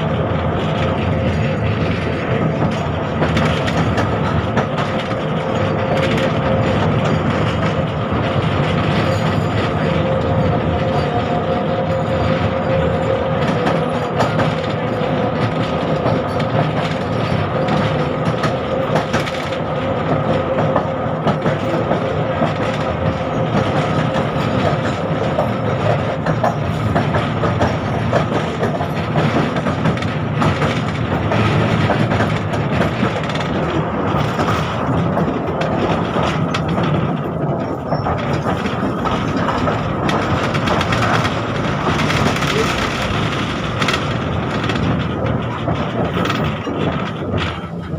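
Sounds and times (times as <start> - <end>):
tram wheels on rails: 0.0 - 47.9.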